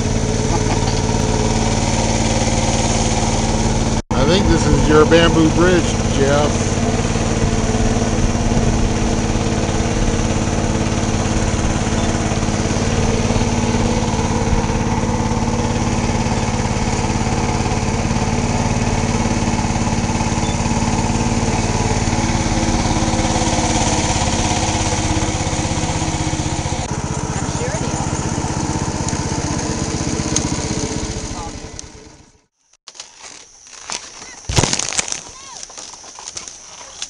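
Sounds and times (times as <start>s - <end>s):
boat engine droning: 0.0s - 32.5s.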